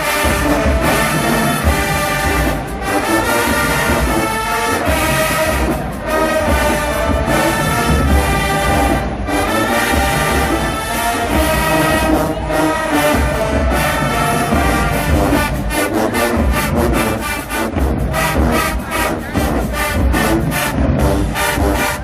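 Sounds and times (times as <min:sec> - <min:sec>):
drums: 0:00.0 - 0:22.0
marching band brass: 0:00.0 - 0:22.0.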